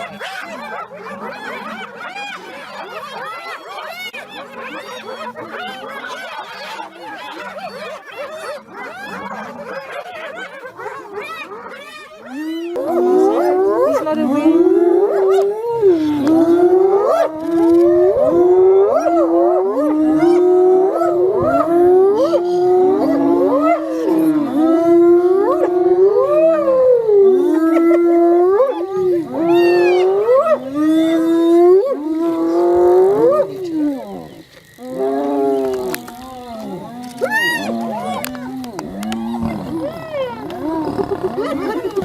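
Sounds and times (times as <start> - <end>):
hyenas calling: 0.0 - 42.0.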